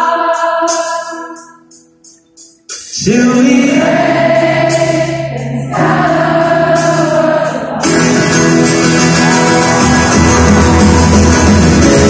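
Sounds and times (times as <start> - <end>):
live pop-rock band: 0.0 - 12.0.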